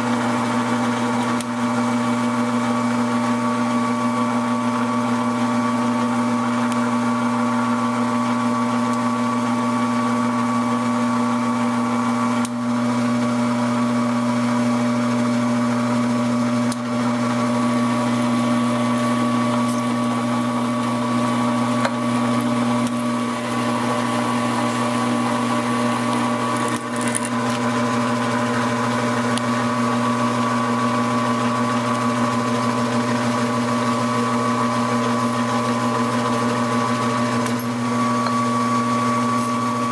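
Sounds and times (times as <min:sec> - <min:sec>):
metal lathe humming: 0:00.0 - 0:39.9.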